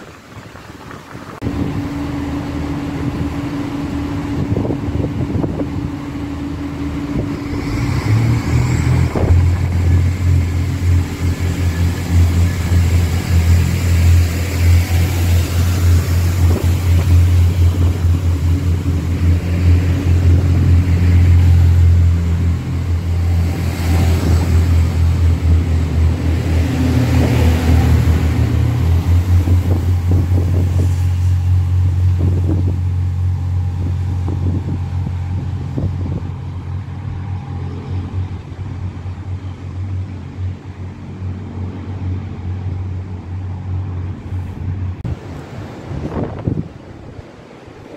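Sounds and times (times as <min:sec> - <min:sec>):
diesel train engine drone: 0:00.0 - 0:47.9
short rising whine: 0:01.4 - 0:40.1.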